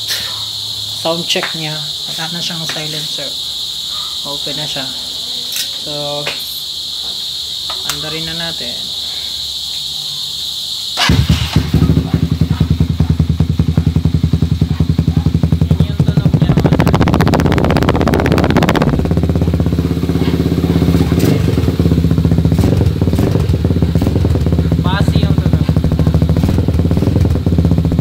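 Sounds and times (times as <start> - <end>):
motorcycle engine idling and revving: 0.0 - 8.7, 10.4 - 28.0
crickets chirping: 0.0 - 28.0.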